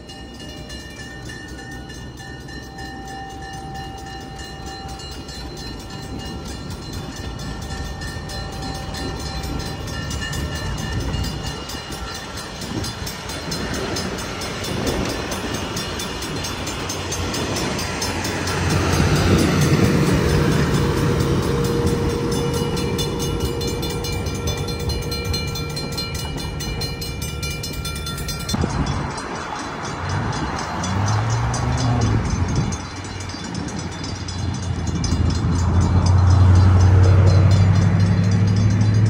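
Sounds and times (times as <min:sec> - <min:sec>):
crossing bell ringing: 0:00.0 - 0:39.0
diesel locomotive engine: 0:00.0 - 0:39.0
train wheels clacking on rails: 0:00.0 - 0:39.0.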